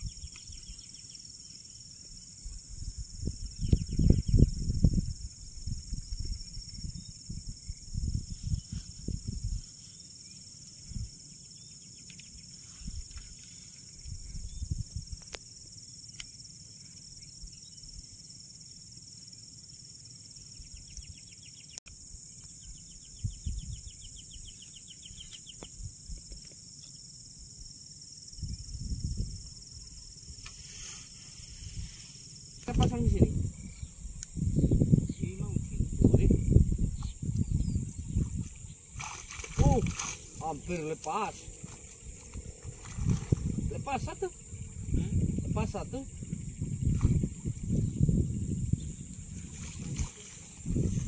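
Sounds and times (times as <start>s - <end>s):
insects trilling: 0.0s - 51.0s
lower faster insect trill: 0.0s - 51.0s.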